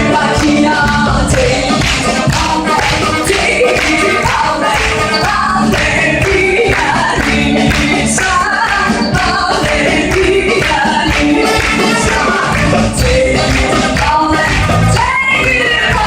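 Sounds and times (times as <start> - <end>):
folk band playing: 0.0 - 16.0.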